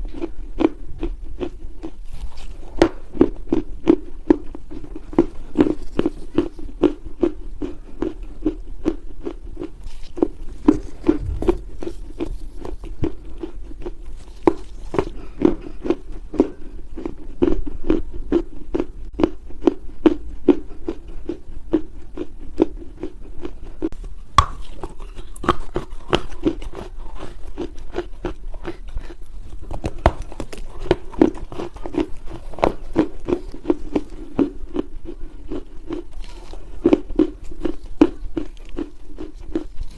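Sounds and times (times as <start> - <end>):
clay crunching and crumbling: 1.0 - 17.6, 23.8 - 39.9.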